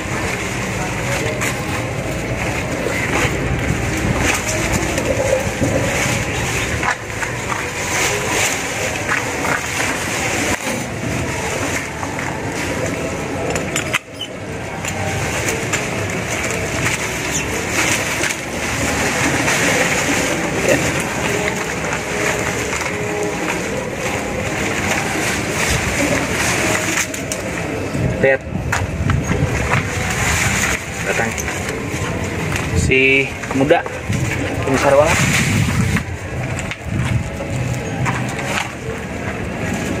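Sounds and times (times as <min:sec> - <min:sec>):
leaves and stems rustling: 0:00.0 - 0:40.0
steady background noise: 0:00.0 - 0:40.0.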